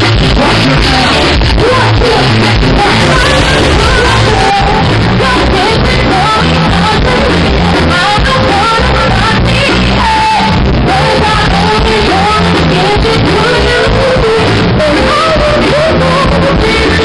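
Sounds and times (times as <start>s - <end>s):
live band playing: 0.0s - 17.0s
woman singing into microphone: 0.6s - 17.0s.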